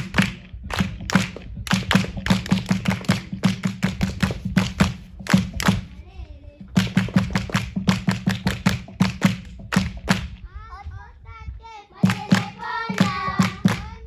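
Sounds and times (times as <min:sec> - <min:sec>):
low thud on beat: 0:00.0 - 0:06.0, 0:06.6 - 0:10.4, 0:12.0 - 0:14.0
people clapping rhythm: 0:00.0 - 0:06.0, 0:06.7 - 0:10.4, 0:12.0 - 0:14.0.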